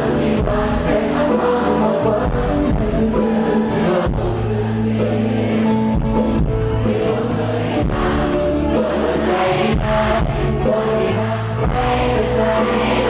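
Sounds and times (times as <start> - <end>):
live band with singing: 0.0 - 13.0.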